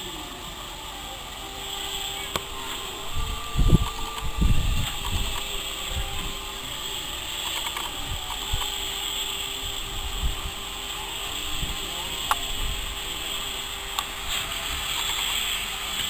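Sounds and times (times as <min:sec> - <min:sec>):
steady hum: 0:00.0 - 0:16.0
mechanical clicking and rattling: 0:02.0 - 0:16.0.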